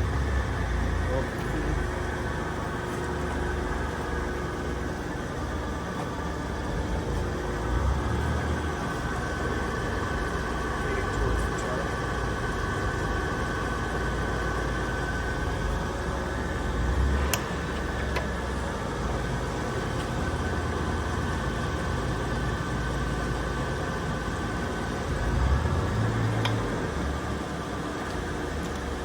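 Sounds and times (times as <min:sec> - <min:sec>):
lathe running: 0:00.0 - 0:29.0.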